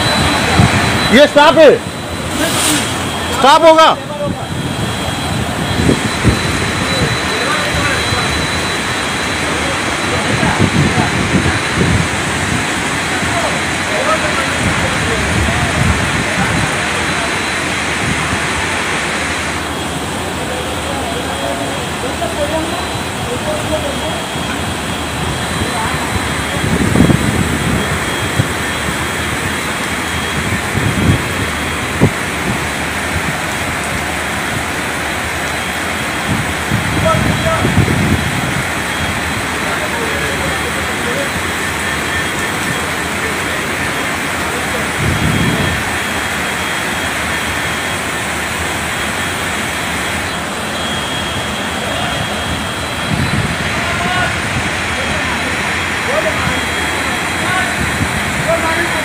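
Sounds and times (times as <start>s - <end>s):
floodwater torrent rushing: 0.0s - 59.0s.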